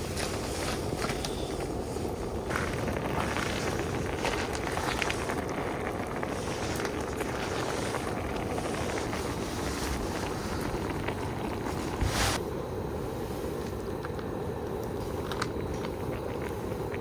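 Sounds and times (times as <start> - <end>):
faint crackles: 0.0 - 12.4, 13.3 - 17.0.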